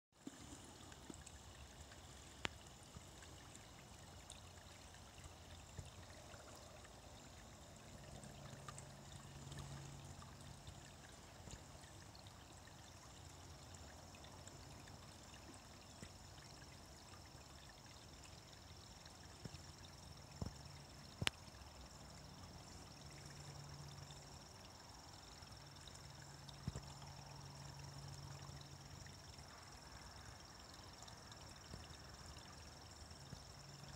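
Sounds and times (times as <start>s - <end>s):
stream trickling: 0.1s - 33.9s.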